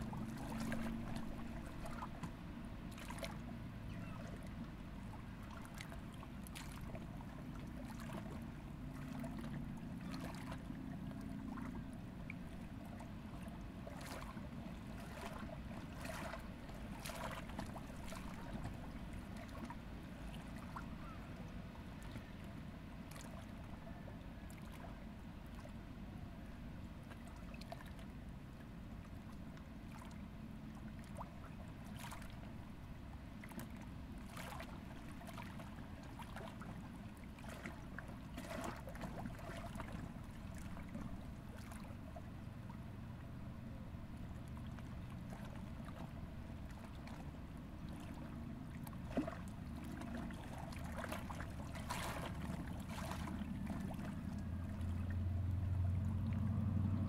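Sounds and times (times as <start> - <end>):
river water lapping on rocks: 0.0 - 3.5, 4.3 - 21.2, 23.1 - 23.8, 29.1 - 32.6, 33.4 - 42.9, 44.1 - 57.0
low steady rumble: 0.0 - 57.0.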